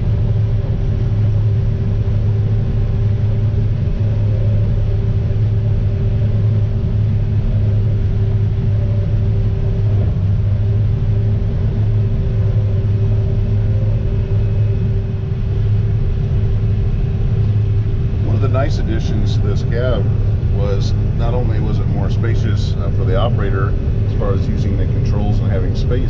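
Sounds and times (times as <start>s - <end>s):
combine engine droning: 0.0s - 26.0s
steady hum: 0.0s - 26.0s.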